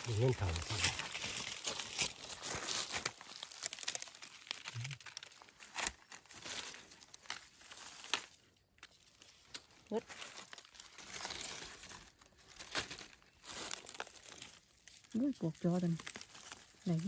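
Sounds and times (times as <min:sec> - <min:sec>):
dry leaves crackling and rustling: 0:00.0 - 0:17.0
twigs snapping: 0:00.0 - 0:17.0.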